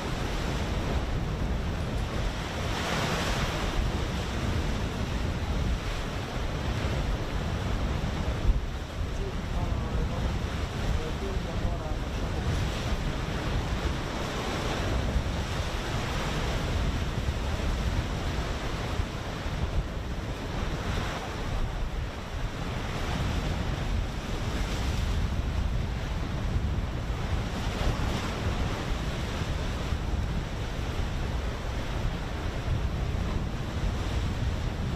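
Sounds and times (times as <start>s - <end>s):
sea rushing: 0.0s - 34.9s
wind buffeting microphone: 0.0s - 34.9s.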